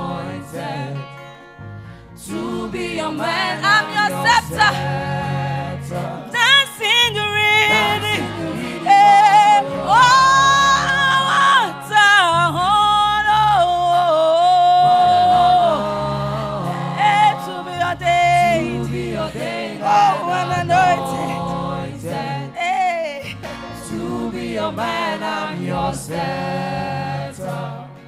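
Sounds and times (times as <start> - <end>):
person singing gospel song: 0.0 - 28.0
steady musical accompaniment: 0.0 - 28.0.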